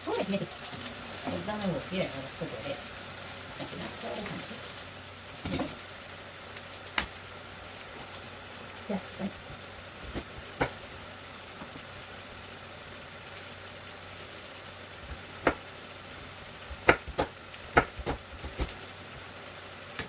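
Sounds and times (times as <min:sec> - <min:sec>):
food frying in a pan: 0:00.0 - 0:20.0.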